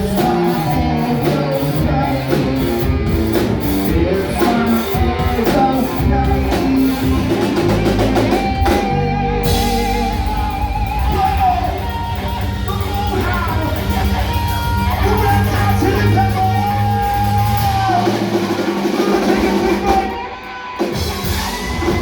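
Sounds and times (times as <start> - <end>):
bass guitar: 0.0 - 22.0
drum kit: 0.0 - 22.0
electric guitar: 0.0 - 22.0
person singing: 0.0 - 22.0.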